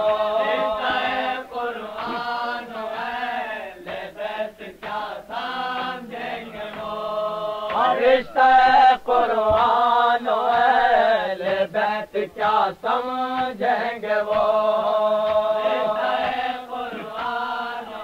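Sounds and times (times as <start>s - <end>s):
men chanting: 0.0s - 18.0s.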